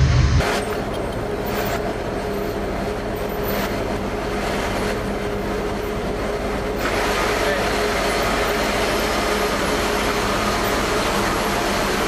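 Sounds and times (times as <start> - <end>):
diesel engine running slowly: 0.0 - 12.0
steady machinery hum: 0.0 - 12.0.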